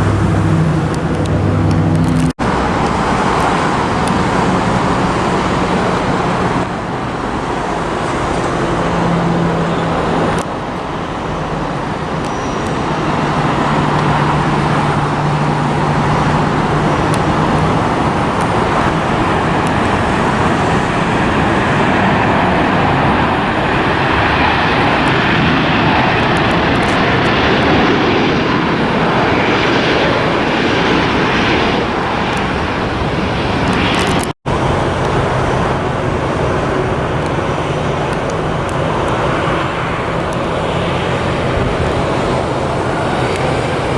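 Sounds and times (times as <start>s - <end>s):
jet airliner engine roar: 0.0s - 43.9s
road traffic: 0.0s - 43.9s.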